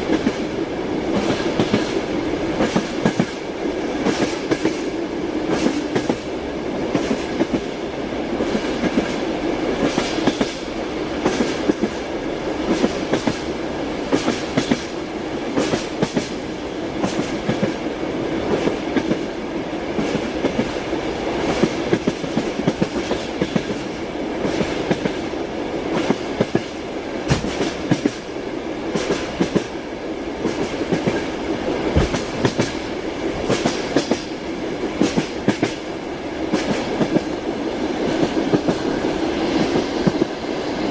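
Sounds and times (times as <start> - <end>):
train carriage rumbling: 0.0 - 40.9.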